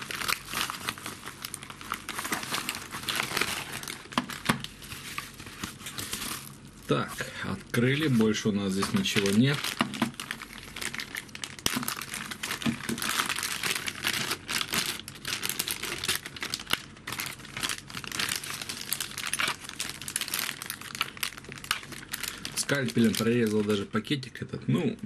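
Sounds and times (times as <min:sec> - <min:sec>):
plastic bag crinkling: 0:00.0 - 0:24.2.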